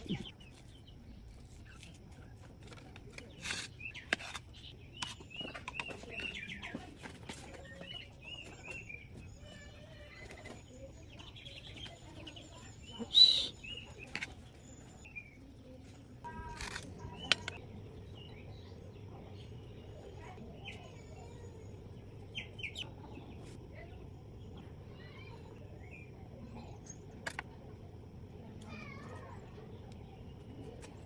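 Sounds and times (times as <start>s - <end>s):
small birds chirping: 0.0s - 16.1s, 17.0s - 31.0s.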